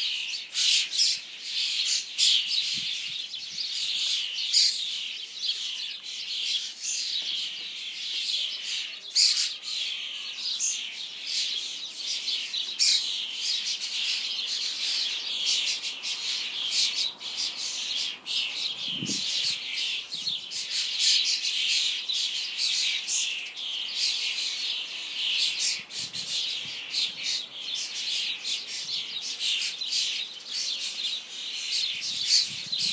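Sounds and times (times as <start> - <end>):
young starlings chirping: 0.0 - 32.9.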